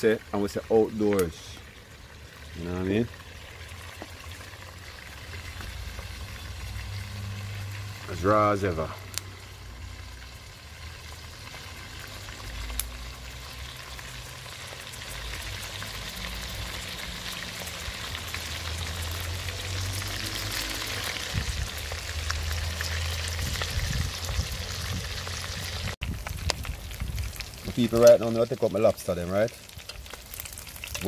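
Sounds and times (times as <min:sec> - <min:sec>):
lobsters frying in hot oil: 0:00.0 - 0:31.0.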